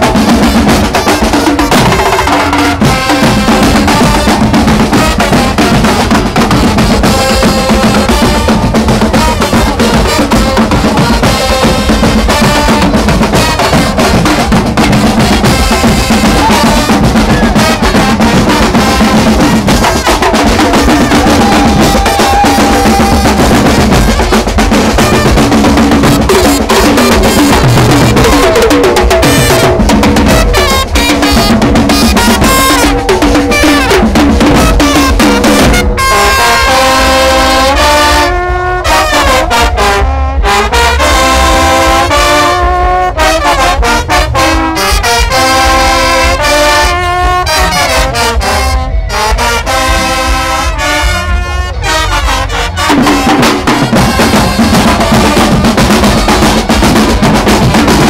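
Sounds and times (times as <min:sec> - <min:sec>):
drums and cymbals: 0:00.0 - 0:58.0
trumpets playing melody: 0:00.0 - 0:58.0.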